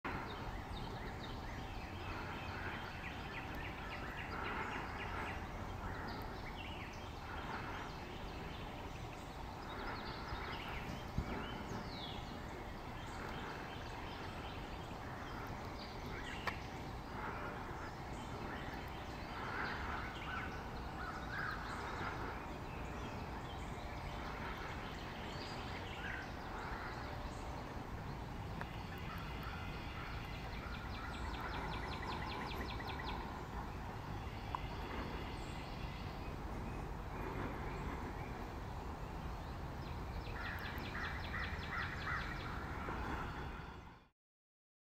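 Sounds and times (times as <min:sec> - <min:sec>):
steady background hiss: 0:00.1 - 0:44.0
distant bird calls and chirps: 0:00.1 - 0:44.1.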